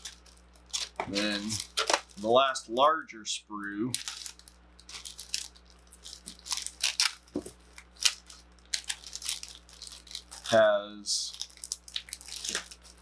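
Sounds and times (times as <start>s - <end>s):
plastic bag crinkling: 0.0s - 2.5s, 3.9s - 13.0s
faint low hum: 0.0s - 13.0s.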